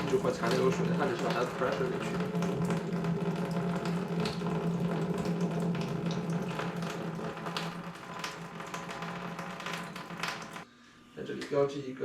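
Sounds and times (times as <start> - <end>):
water hissing through pipes: 0.0 - 10.7.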